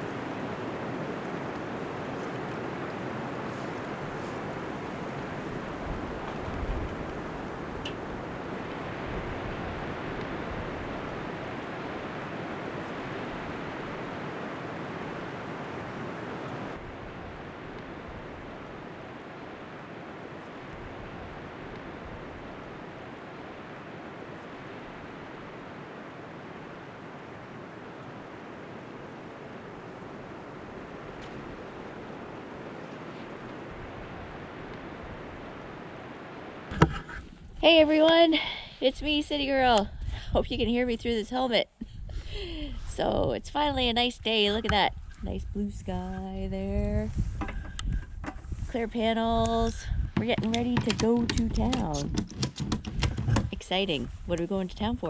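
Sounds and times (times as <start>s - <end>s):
rushing snowstorm wind: 0.0s - 36.8s, 37.4s - 55.0s.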